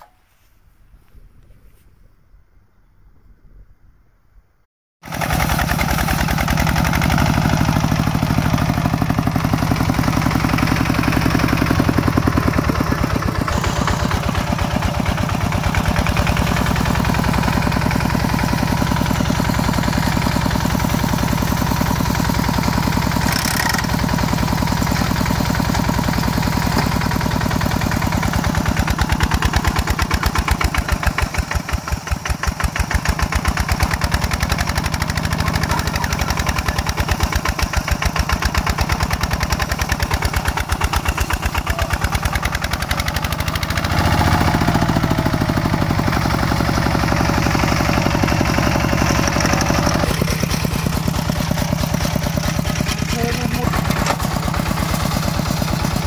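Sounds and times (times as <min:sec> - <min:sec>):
heavy machine engine running: 0:05.0 - 0:56.0.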